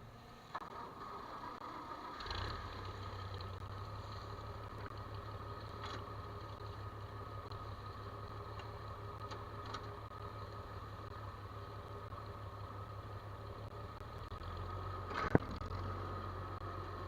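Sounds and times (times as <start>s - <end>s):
farm machine engine running: 0.0s - 17.0s.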